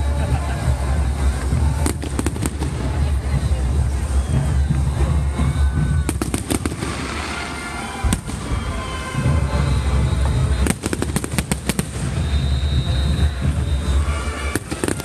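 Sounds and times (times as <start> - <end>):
steady low rumble: 0.0 - 15.0
fireworks bangs: 0.1 - 15.0.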